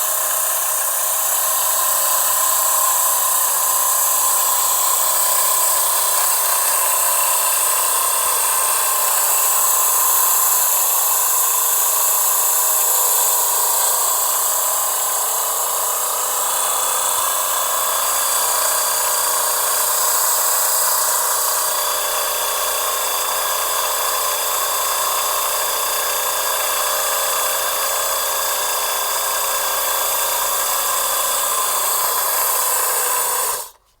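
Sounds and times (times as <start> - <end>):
lint remover motor whining: 0.0 - 34.0.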